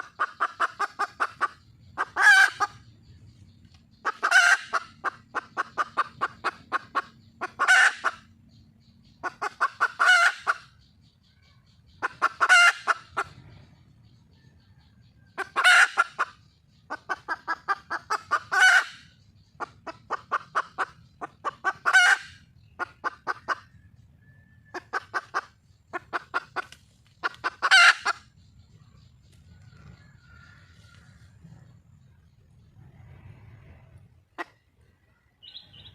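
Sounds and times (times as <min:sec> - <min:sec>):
hen clucking and squawking: 0:00.0 - 0:35.9.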